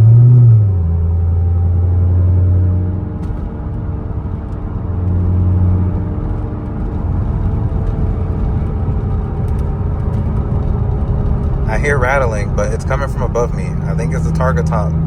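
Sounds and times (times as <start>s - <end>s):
engine and exhaust drone: 0.0s - 15.0s
road noise: 0.0s - 15.0s.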